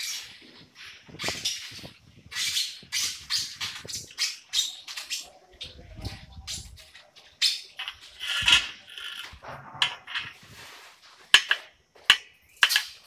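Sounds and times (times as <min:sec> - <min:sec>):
scraping and rustling on pipe: 0:00.0 - 0:11.6.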